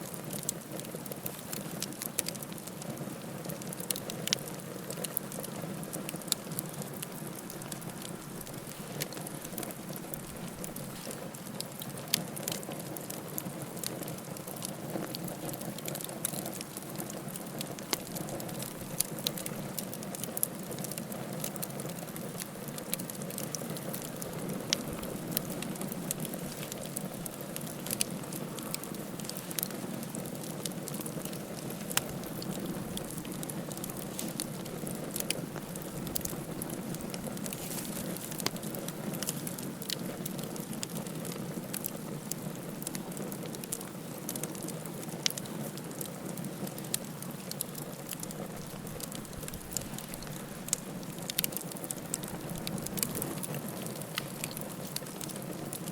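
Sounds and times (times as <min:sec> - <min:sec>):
campfire flame rushing: 0:00.0 - 0:55.9
fire crackles and pops: 0:00.0 - 0:55.9.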